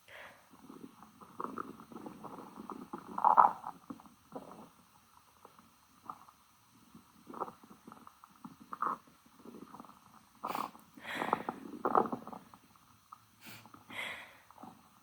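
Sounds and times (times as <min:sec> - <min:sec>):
stomach growling: 0:00.1 - 0:15.0.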